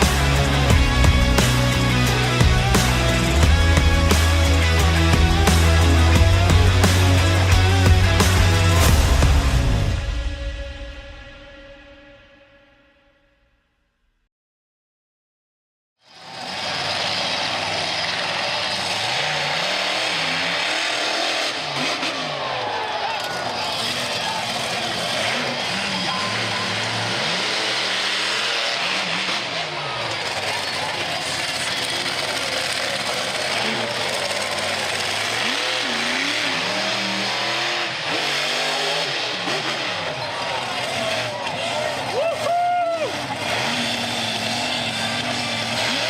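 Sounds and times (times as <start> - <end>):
monster truck engine revving: 0.0 - 12.0, 16.0 - 46.0.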